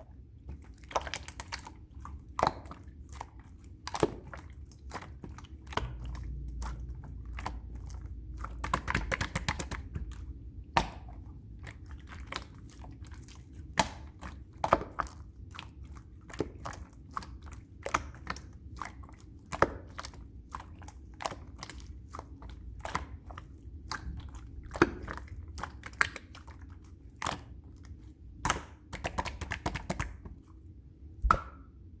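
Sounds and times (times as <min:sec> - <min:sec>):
slime squishing: 0:00.0 - 0:32.0.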